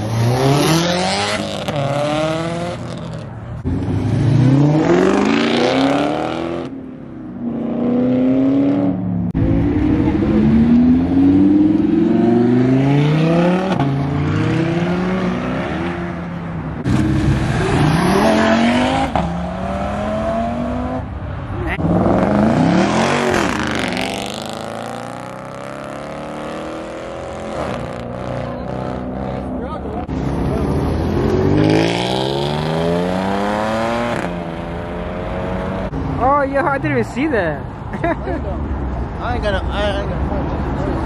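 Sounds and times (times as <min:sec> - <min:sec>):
cars accelerating hard: 0:00.0 - 0:36.2.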